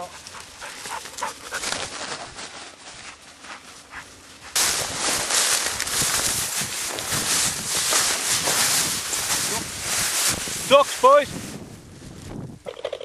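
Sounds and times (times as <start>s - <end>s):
rustling: 0.0s - 12.4s.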